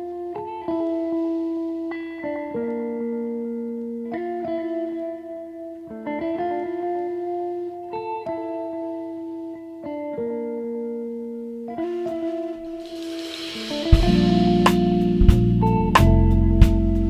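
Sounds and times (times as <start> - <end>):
slow guitar melody: 0.0 - 17.0.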